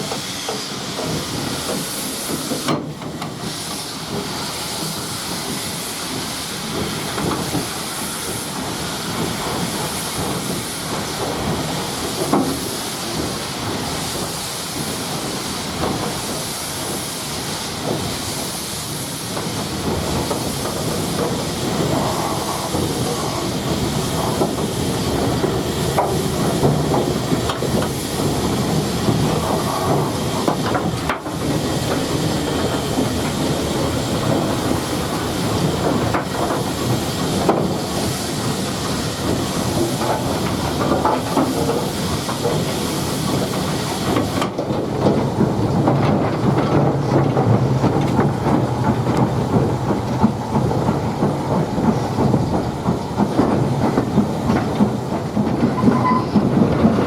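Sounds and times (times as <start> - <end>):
steam hissing: 0.0 - 57.0
steam train running: 0.0 - 57.0.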